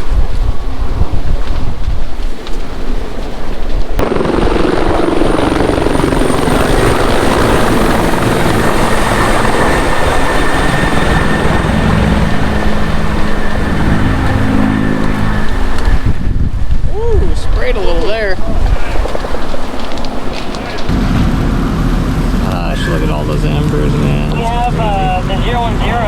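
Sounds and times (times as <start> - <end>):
helicopter rotor and engine: 2.7 - 26.0.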